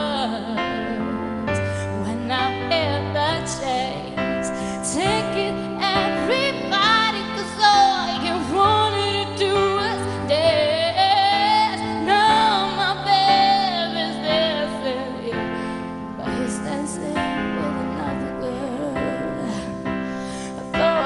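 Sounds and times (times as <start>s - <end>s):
woman singing a pop ballad: 0.0s - 21.0s.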